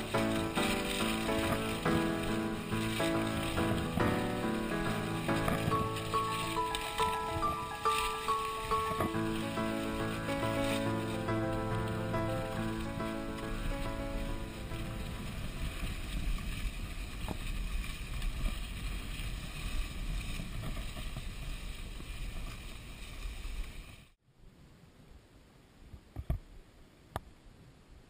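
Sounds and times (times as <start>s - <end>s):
wind rushing over microphone: 0.0s - 22.5s
skis sliding on snow: 0.0s - 24.2s.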